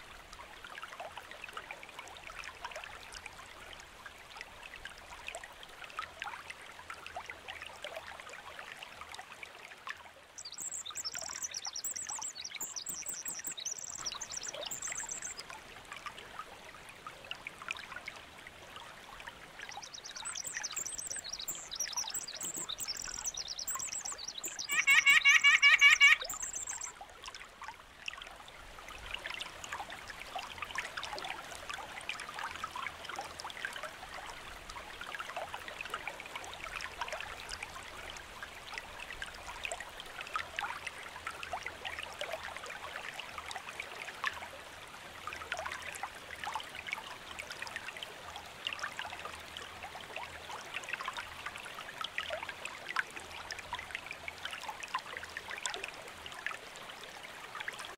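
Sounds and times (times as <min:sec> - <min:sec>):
creek water babbling: 0:00.0 - 0:57.9
small water splashes: 0:00.0 - 0:57.9.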